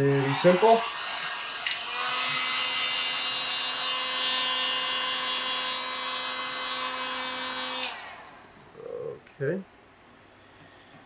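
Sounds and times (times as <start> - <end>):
heat gun fan hum and blown air: 0.0 - 9.6.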